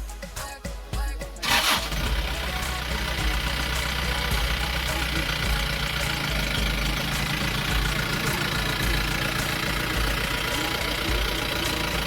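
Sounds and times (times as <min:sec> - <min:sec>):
vehicle engine idling: 0:01.0 - 0:12.0.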